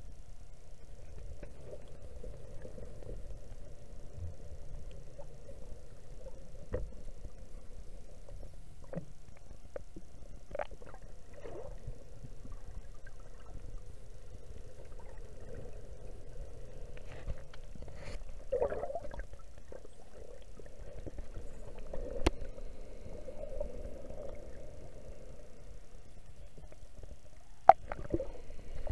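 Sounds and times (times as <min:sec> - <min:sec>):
underwater rumble: 0:00.0 - 0:28.9
regulator bubbles gurgling: 0:01.0 - 0:28.9.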